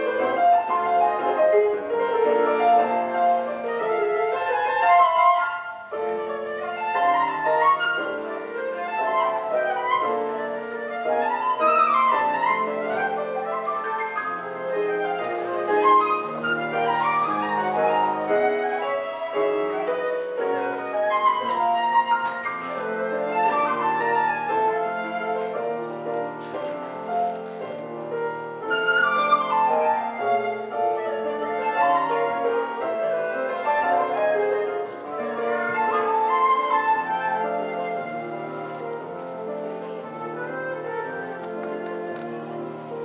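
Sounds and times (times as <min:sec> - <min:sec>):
flute melody: 0:00.0 - 0:43.0
piano chords: 0:00.0 - 0:43.0.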